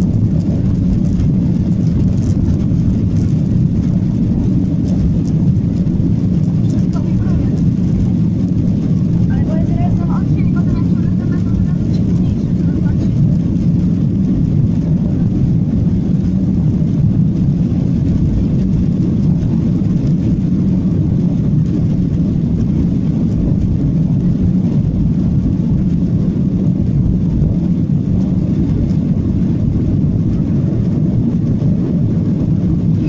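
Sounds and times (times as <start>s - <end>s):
jet engine cabin rumble: 0.0s - 33.0s.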